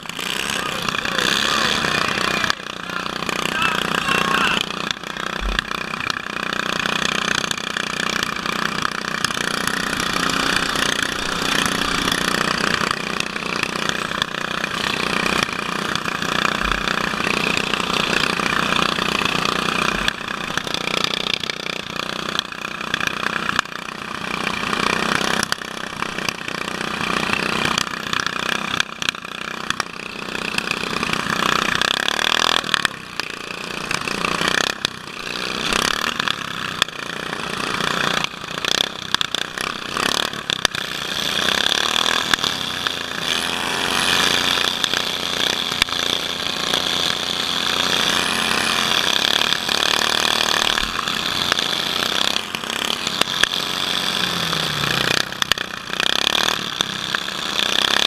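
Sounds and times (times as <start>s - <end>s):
lawn mower engine running rough: 0.0s - 58.0s
other mower engines: 0.0s - 58.0s.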